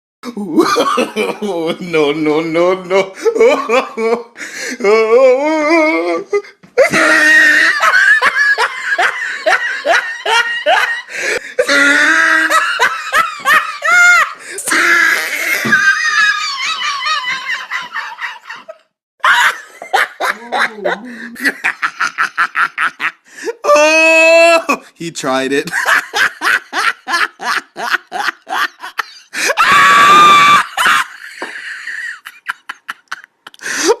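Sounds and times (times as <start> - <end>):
person laughing in high yelps: 5.3 - 24.8, 25.7 - 34.0.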